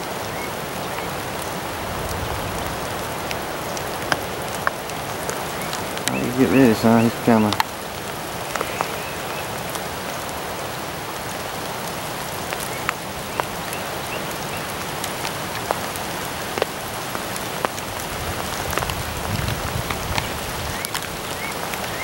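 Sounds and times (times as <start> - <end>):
raindrops ticking: 0.0 - 22.0
steady rain hiss: 0.0 - 22.0.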